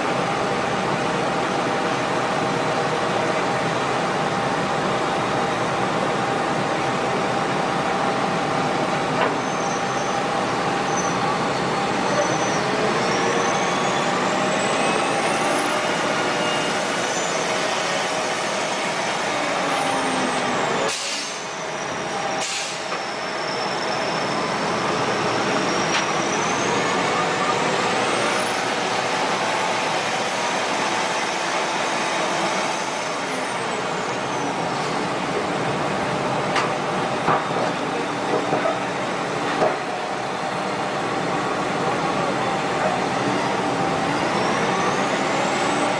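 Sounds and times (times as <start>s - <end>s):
heavy diesel loaders running: 0.0s - 45.9s.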